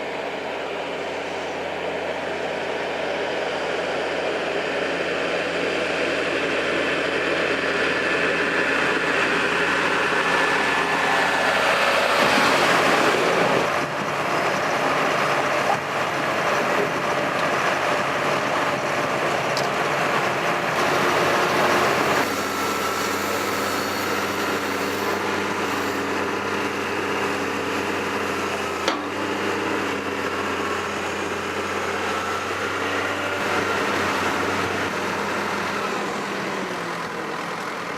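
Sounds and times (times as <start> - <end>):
tractor engine running hard: 0.0 - 37.9.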